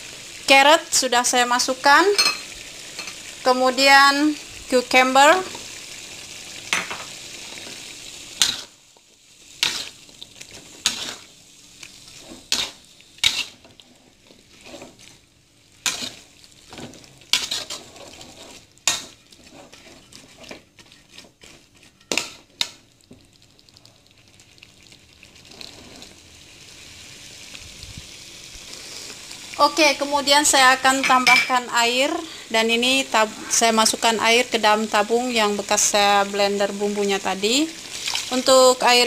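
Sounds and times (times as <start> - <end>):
low sizzle: 0.0 - 39.0.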